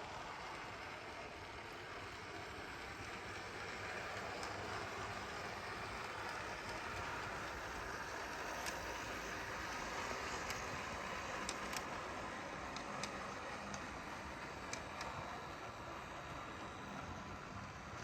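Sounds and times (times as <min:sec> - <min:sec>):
model train hum and rumble: 0:00.0 - 0:18.0.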